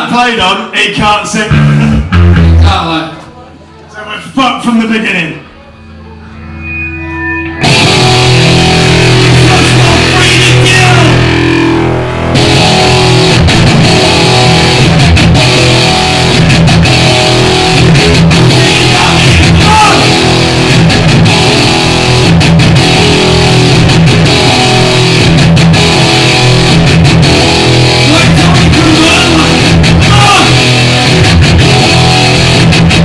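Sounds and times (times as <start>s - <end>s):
live punk band playing: 1.0s - 3.3s, 5.4s - 33.0s.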